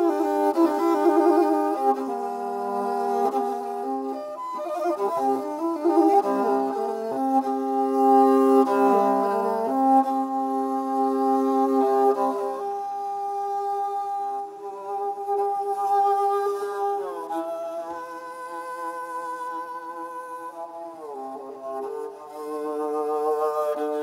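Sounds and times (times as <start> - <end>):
bowed fiddle long notes: 0.0 - 24.0.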